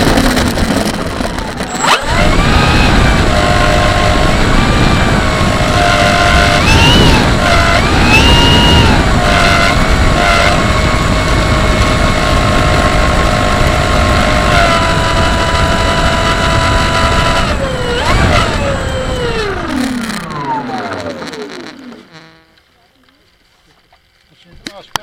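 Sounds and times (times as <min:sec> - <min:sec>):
model plane engine at high revs: 0:00.0 - 0:22.6.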